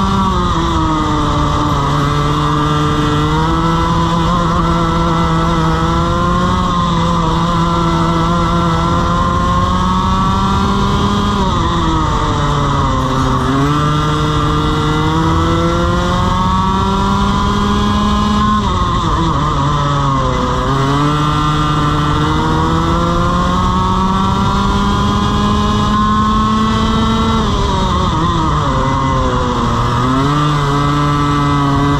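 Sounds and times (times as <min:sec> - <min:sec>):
kart engine revving: 0:00.0 - 0:31.9.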